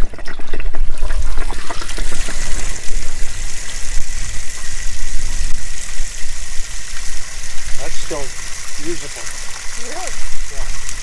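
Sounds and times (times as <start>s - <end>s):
water gushing from drain: 0.0s - 11.0s.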